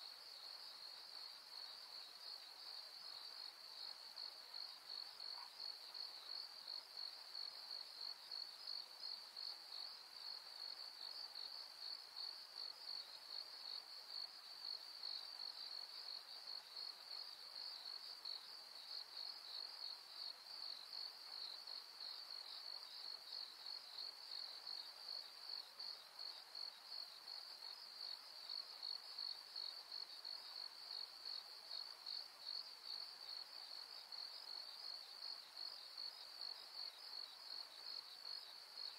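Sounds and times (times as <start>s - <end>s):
faint insect chorus trilling: 0.0s - 38.9s.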